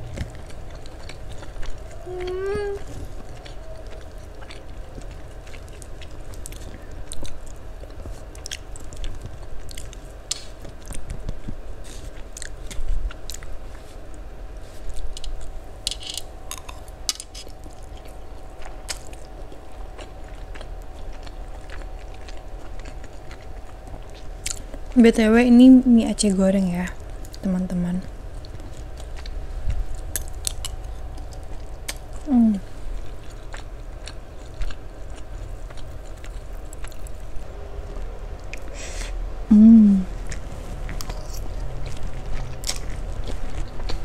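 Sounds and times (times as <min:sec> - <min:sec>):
chewing and mouth smacking: 0:00.0 - 0:15.6, 0:16.5 - 0:25.0, 0:26.9 - 0:39.2, 0:40.1 - 0:44.0
steady low hum: 0:00.0 - 0:44.0.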